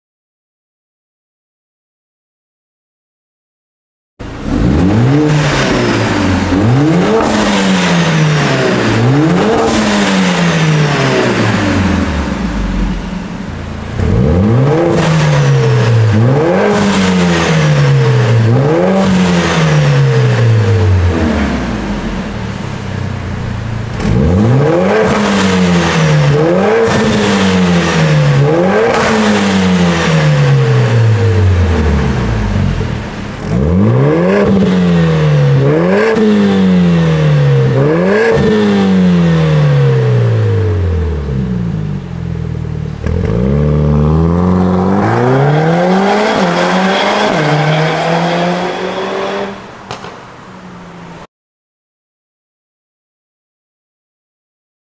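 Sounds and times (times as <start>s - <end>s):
car engine revving: 4.2s - 51.3s.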